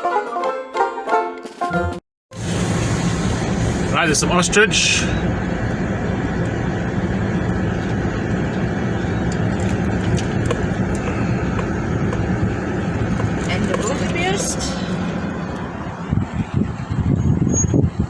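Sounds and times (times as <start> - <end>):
vehicle driving on dirt road: 2.4 - 18.0.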